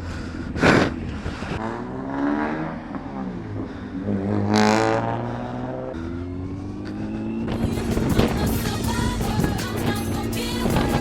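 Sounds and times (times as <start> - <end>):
motorcycle engine revving: 0.8 - 11.0.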